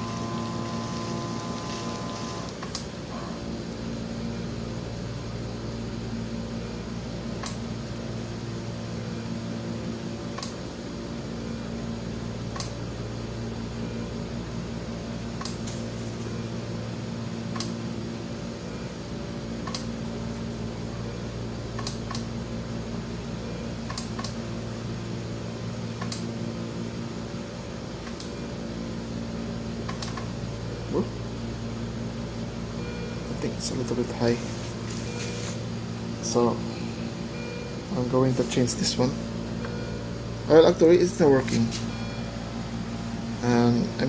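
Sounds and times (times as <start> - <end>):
steady machine hum: 0.0 - 44.0.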